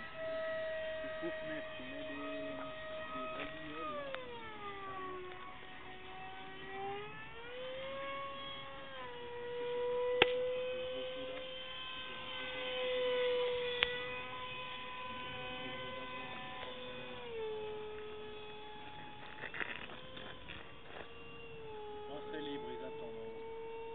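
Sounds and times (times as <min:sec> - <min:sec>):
model plane motor whining: 0:00.0 - 0:23.9.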